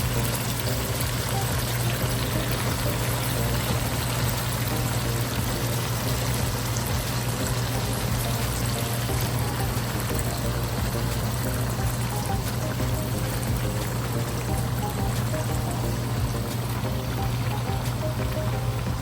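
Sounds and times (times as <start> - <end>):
low hum: 0.0 - 19.0
water pouring: 0.0 - 19.0.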